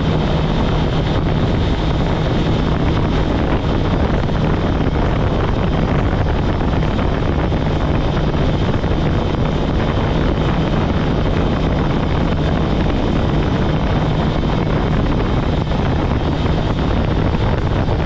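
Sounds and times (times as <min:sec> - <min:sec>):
motorcycle engine cruising: 0:00.0 - 0:18.0
wind rushing over microphone: 0:00.0 - 0:18.0.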